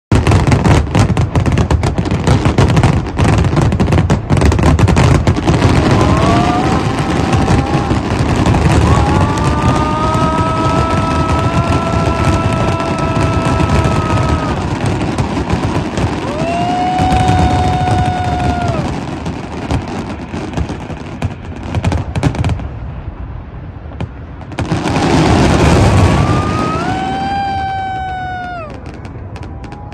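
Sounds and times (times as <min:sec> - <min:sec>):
fireworks bursting and crackling: 0:00.1 - 0:29.9.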